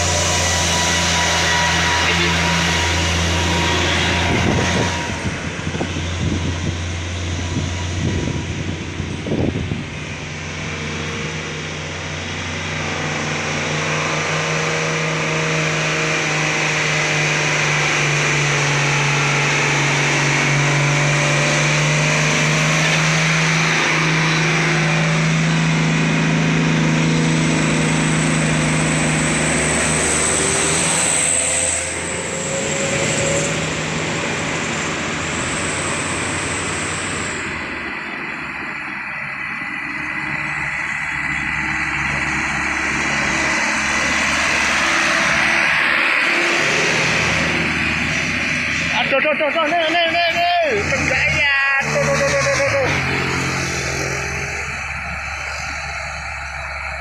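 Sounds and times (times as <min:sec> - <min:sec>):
truck diesel engines droning: 0:00.0 - 0:57.0
tyre and road noise: 0:00.0 - 0:57.0.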